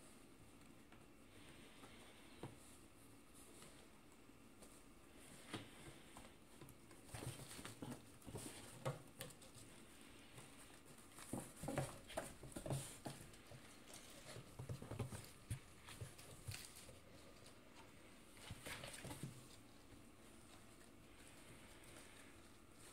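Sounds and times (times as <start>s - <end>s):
cats pattering on cardboard: 0.0s - 22.9s.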